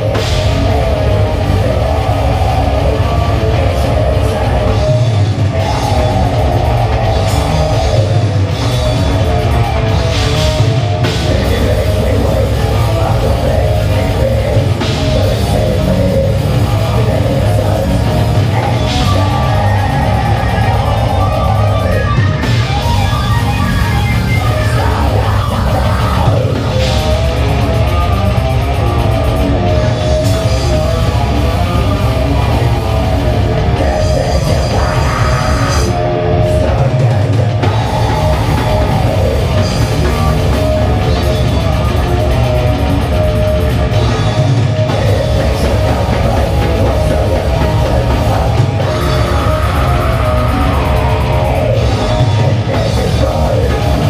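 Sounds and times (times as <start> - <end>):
death metal band playing: 0.0 - 54.0.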